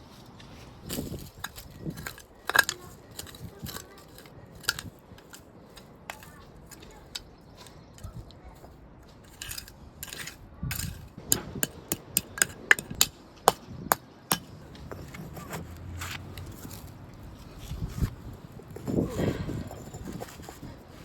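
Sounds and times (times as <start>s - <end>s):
pavers scraping: 0.0s - 21.0s
brick pavers knocking and clinking: 0.9s - 16.9s, 18.6s - 20.9s.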